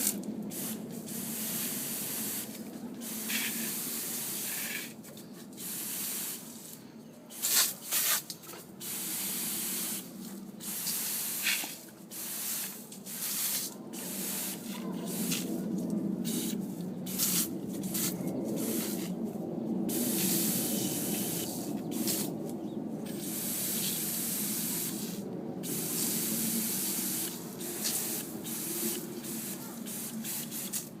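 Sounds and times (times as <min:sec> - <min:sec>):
water spraying with a hissing rush: 0:00.0 - 0:05.0, 0:05.6 - 0:19.2, 0:19.9 - 0:22.4, 0:23.1 - 0:31.0.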